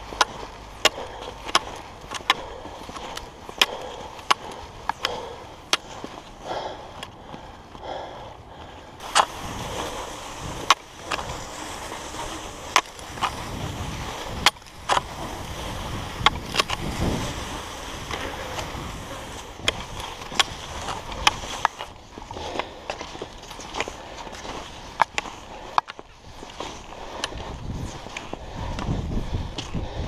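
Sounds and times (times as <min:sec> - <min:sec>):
ski poles clicking: 0:00.0 - 0:07.9, 0:08.6 - 0:29.8
skis sliding over snow: 0:00.0 - 0:30.0.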